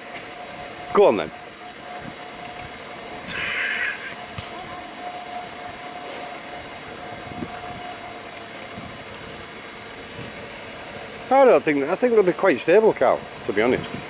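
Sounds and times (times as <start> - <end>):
electric boat motor whine: 0.0 - 14.0.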